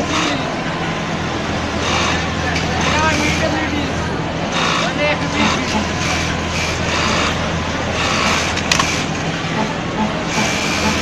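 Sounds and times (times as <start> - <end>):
sewing machine running: 0.0 - 0.6, 1.7 - 3.6, 4.5 - 11.0.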